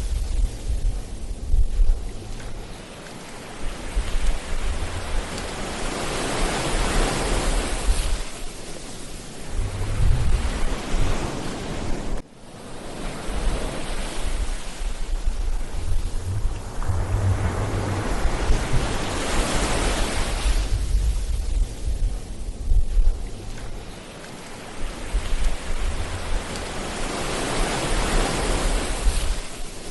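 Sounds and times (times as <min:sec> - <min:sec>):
ocean waves breaking on shore: 0:00.0 - 0:29.9
wind rumble on microphone: 0:00.0 - 0:29.9.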